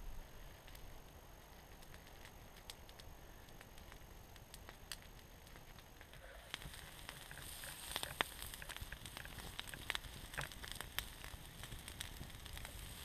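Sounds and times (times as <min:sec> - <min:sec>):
campfire crackling and popping: 0:00.0 - 0:13.0
faint hiss: 0:00.0 - 0:13.0.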